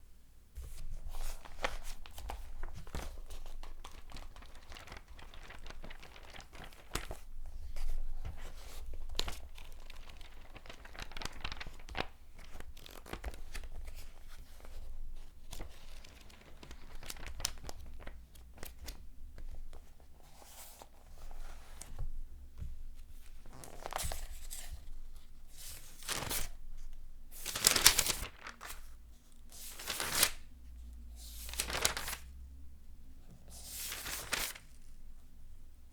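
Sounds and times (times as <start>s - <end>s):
paper pages being turned: 0.6s - 22.0s, 23.4s - 26.6s, 27.4s - 30.5s, 31.2s - 32.3s, 33.5s - 34.9s.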